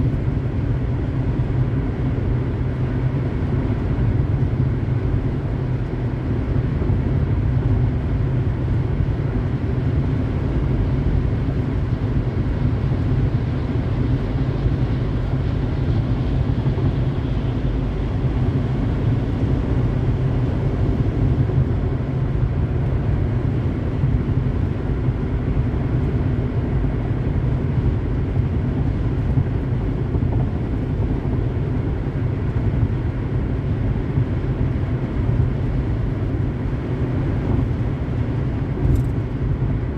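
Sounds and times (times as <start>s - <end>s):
car driving at highway speed: 0.0s - 39.9s.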